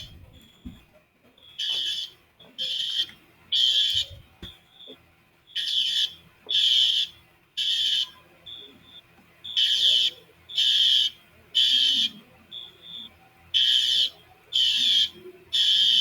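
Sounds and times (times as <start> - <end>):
fire alarm blasts: 1.4 - 16.0.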